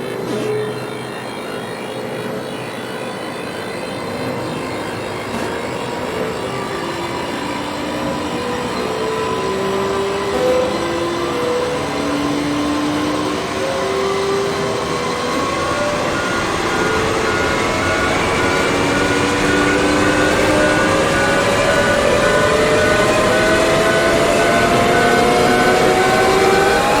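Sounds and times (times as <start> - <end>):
gritty noise bed: 0.0 - 27.0
upward gliding tones: 0.1 - 27.0.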